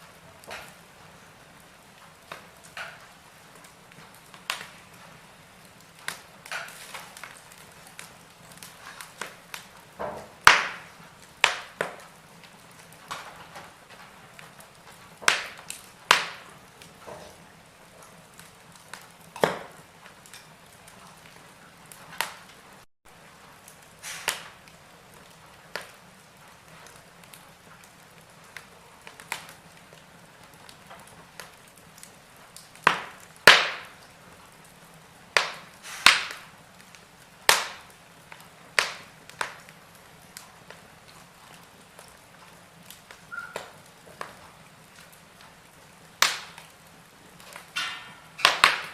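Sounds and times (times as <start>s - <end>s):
faint steady background noise: 0.0s - 48.9s
wood fire crackling and popping: 0.0s - 48.9s.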